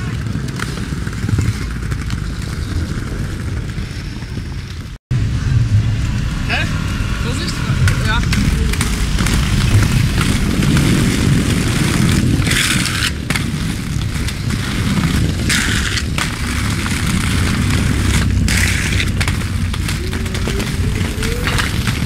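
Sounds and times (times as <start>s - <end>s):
skate wheels rolling on bricks: 0.0s - 22.0s.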